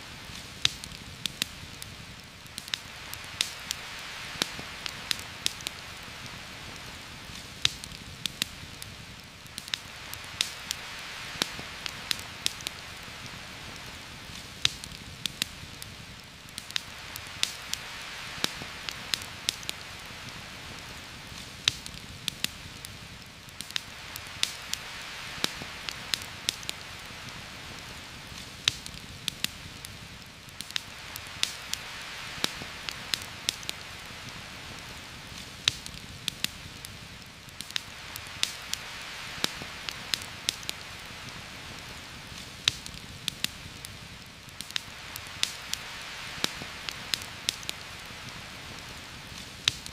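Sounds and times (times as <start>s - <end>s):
campfire crackling: 0.0s - 49.9s
heavy rain: 0.0s - 49.9s.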